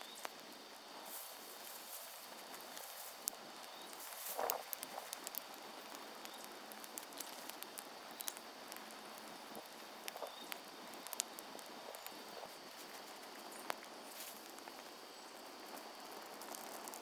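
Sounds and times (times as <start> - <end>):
low steady hiss: 0.0 - 17.0
wood fire crackling: 0.0 - 17.0.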